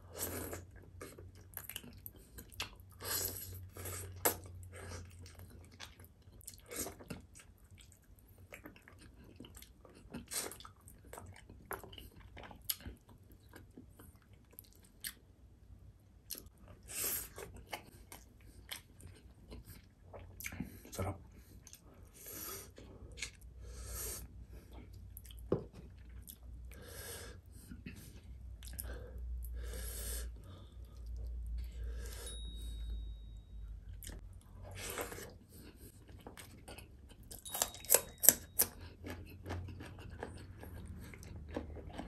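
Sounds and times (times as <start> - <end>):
man chewing food: 0.0 - 42.0.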